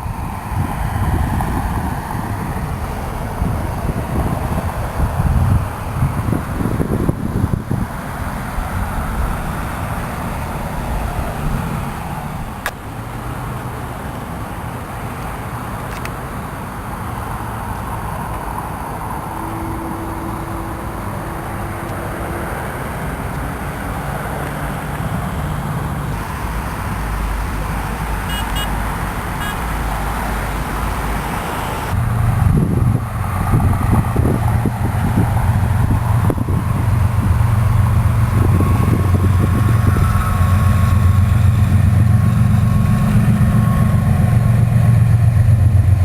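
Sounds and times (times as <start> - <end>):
traffic background noise: 0.0 - 46.0
vehicle engine humming: 0.0 - 46.0.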